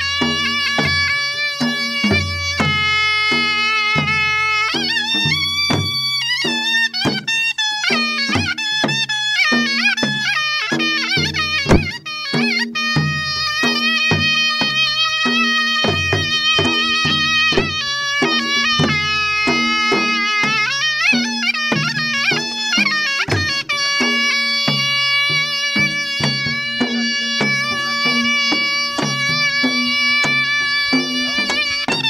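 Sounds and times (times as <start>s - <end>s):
dhol drum beat: 0.0s - 32.0s
reed pipe melody: 0.0s - 32.0s.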